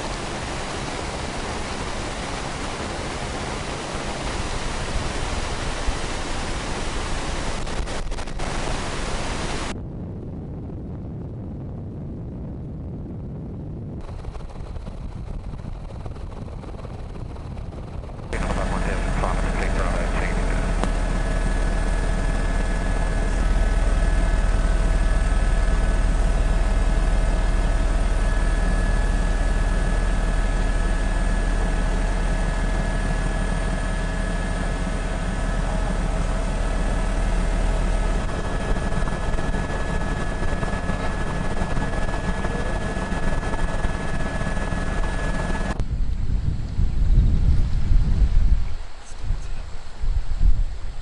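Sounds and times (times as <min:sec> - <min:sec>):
helicopter engine and rotor: 0:00.0 - 0:09.7, 0:14.0 - 0:46.4
low gusty rumble: 0:00.0 - 0:51.0.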